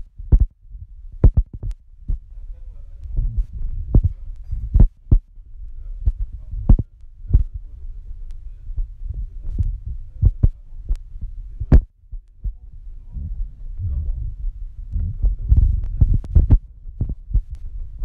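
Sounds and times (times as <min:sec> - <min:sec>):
hand rubbing on microphone: 0:00.0 - 0:11.8, 0:12.4 - 0:18.0.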